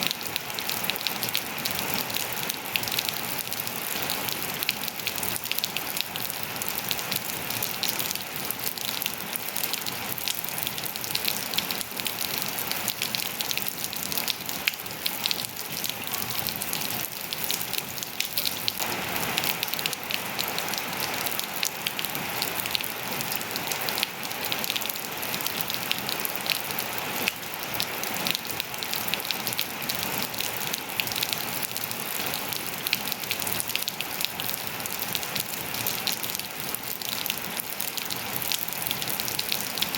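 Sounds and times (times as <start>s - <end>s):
raindrops pattering on surfaces: 0.0s - 39.9s
steady rain falling: 0.0s - 39.9s.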